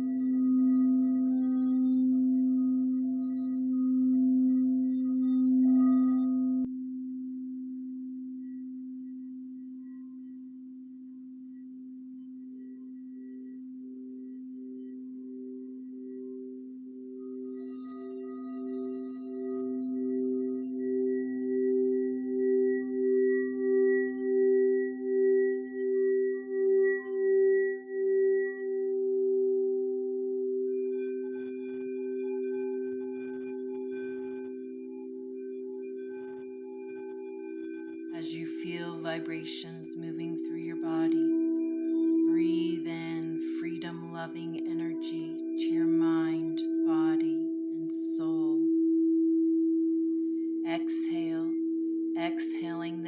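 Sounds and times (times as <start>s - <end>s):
singing bowl ringing: 0.0s - 10.4s, 12.4s - 53.0s.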